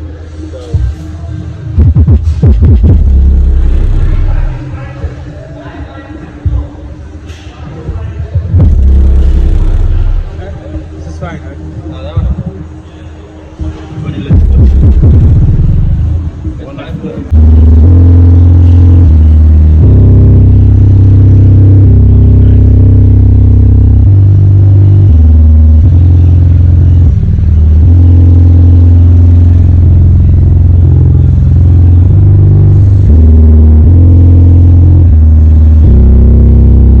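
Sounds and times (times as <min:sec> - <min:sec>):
deep bass notes from subwoofer: 0:00.0 - 0:37.0.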